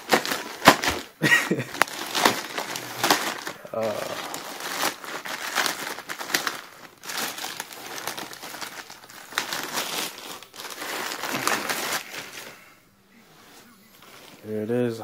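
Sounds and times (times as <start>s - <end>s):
plastic bag crinkling: 0.0s - 12.7s, 13.4s - 14.8s.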